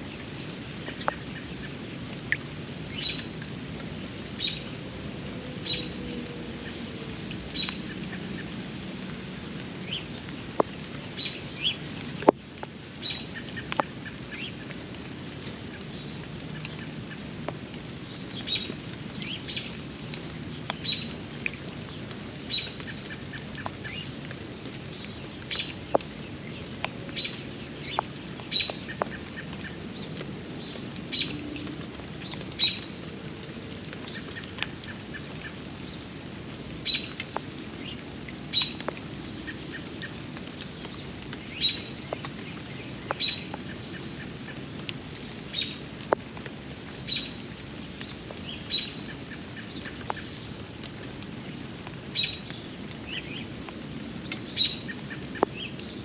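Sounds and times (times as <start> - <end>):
sharp water drips: 0.0 - 56.0
steady rain: 0.0 - 56.0.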